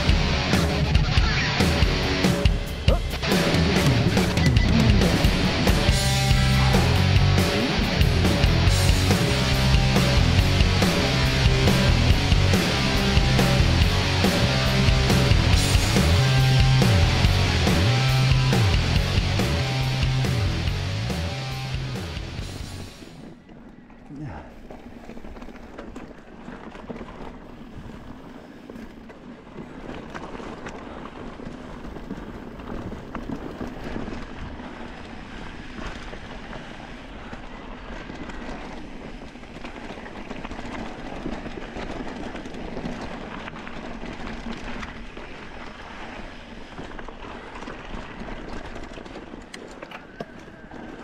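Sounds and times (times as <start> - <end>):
bike rattling and knocking: 0.0 - 51.0
bike tyres crunching on gravel: 0.0 - 51.0.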